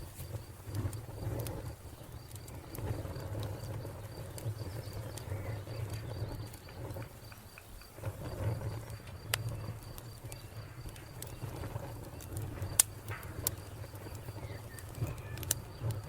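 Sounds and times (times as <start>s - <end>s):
cricket chirping: 0.0s - 16.0s
wood fire crackling and popping: 0.0s - 16.0s.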